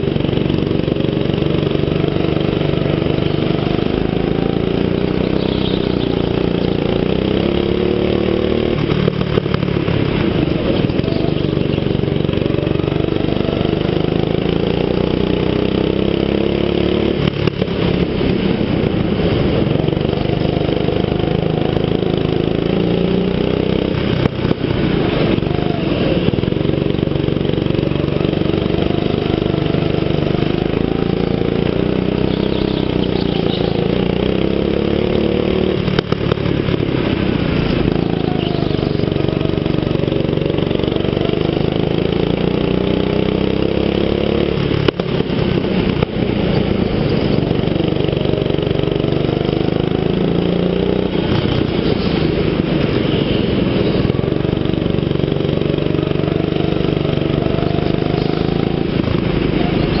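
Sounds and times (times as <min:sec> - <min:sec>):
go-kart engine revving: 0:00.0 - 1:00.0.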